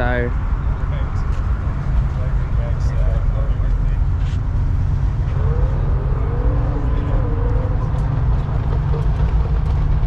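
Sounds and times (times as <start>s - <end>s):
car exhaust rumble: 0.0s - 10.0s.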